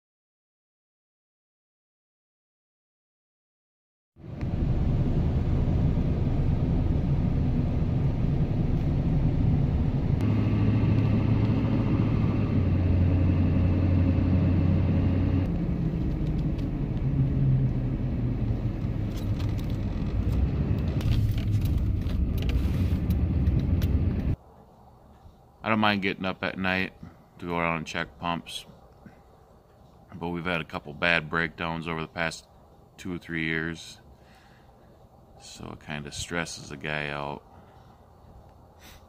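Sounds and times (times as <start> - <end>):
vehicle engine and road rumble: 4.2 - 39.0.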